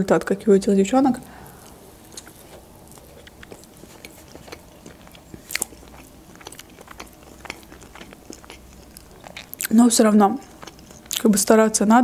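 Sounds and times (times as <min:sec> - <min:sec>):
person chewing food: 0:01.2 - 0:11.4.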